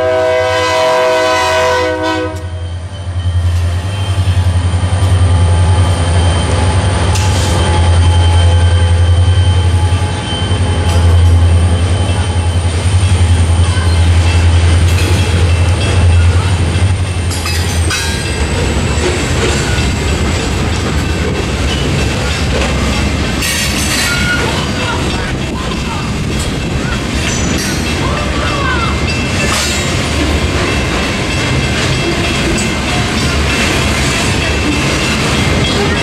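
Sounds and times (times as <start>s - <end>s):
diesel locomotive drone: 0.0s - 36.0s
rail clatter: 0.0s - 36.0s
train wheel rumble: 0.0s - 36.0s.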